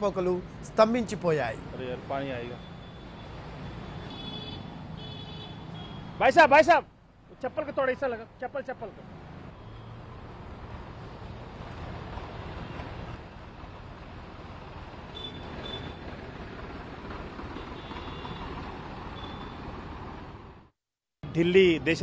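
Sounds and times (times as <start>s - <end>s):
car and scooter engines: 0.0s - 6.3s, 7.0s - 20.7s.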